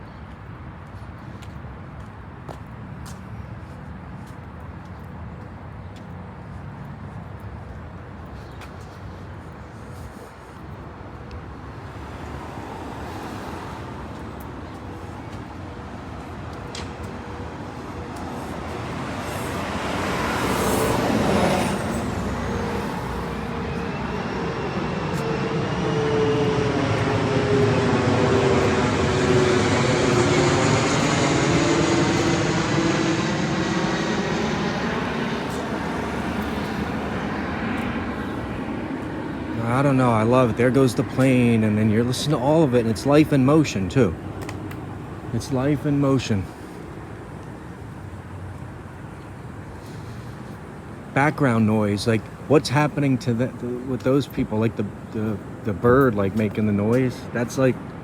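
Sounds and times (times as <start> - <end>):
airplane flying overhead: 0.0 - 58.0.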